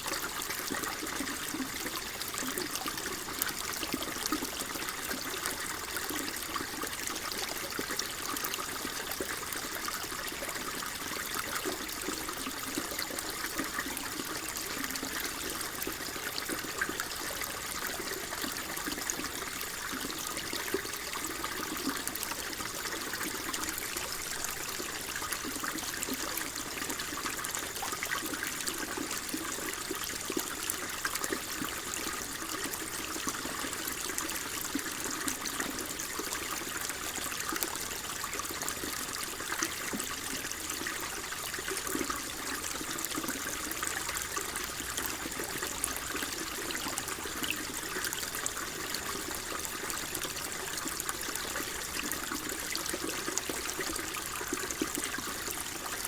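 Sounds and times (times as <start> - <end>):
babbling water trickle: 0.0 - 56.0.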